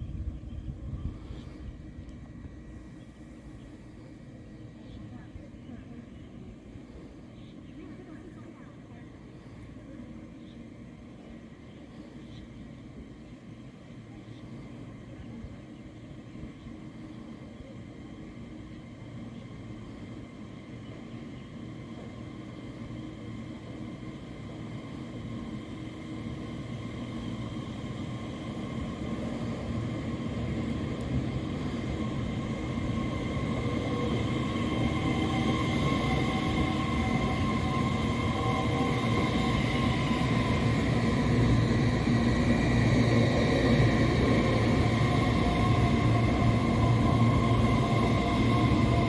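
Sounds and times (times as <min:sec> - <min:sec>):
electric train rumble: 0:00.0 - 0:49.0
multi-tone train whine: 0:00.0 - 0:49.0.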